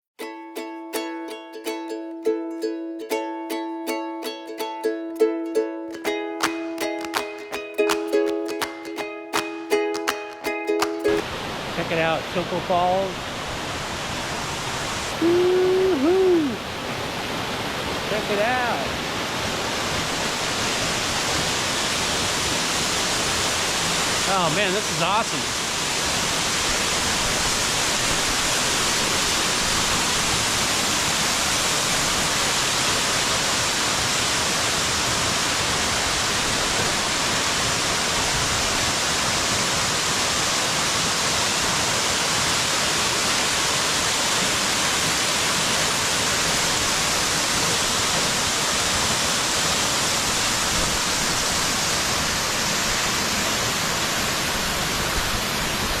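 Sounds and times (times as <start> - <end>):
waterfall rushing: 0.3 - 56.0.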